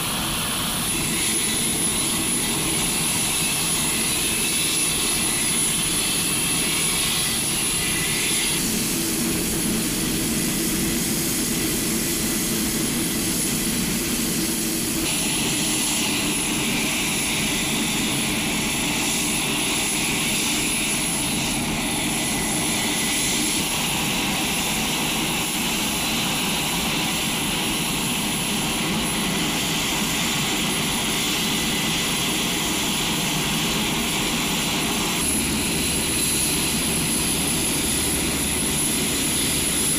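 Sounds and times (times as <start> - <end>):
high engine whine: 0.0 - 39.9
turboprop engines running: 0.0 - 39.9.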